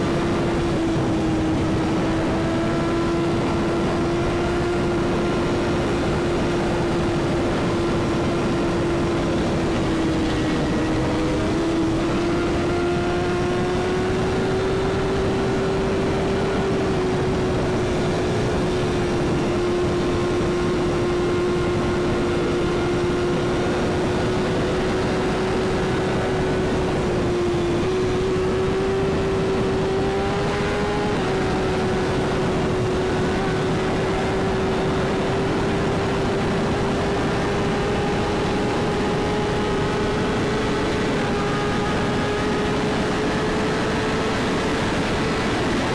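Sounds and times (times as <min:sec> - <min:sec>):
motorcycle engine cruising: 0:00.0 - 0:45.9
wind and road noise: 0:00.0 - 0:45.9.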